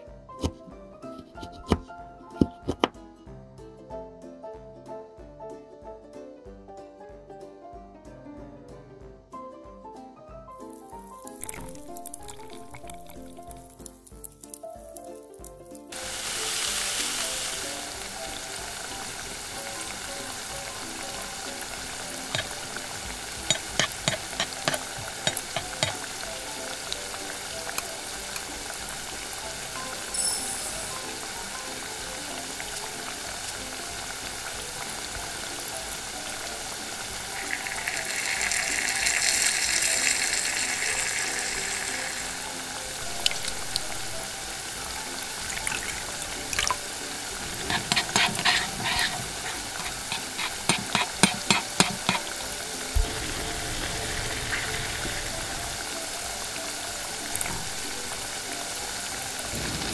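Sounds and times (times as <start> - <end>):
hot oil sizzling in a wok: 10.6 - 59.9.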